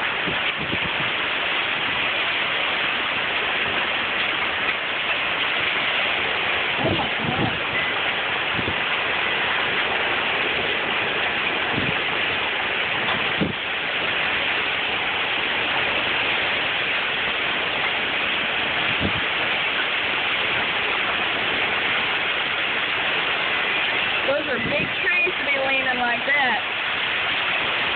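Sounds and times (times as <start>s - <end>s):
heavy rain pouring: 0.0s - 27.9s.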